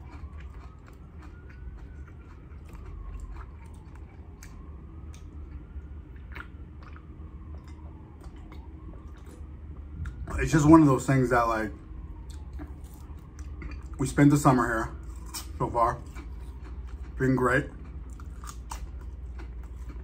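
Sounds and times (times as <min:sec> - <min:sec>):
chewing food: 0:00.0 - 0:10.8, 0:12.1 - 0:20.0.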